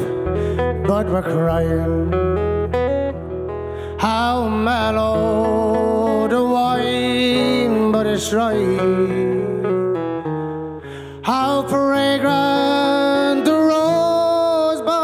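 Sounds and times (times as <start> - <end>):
man singing: 0.0 - 3.0, 3.8 - 15.0
acoustic guitar and plucked strings: 0.0 - 15.0.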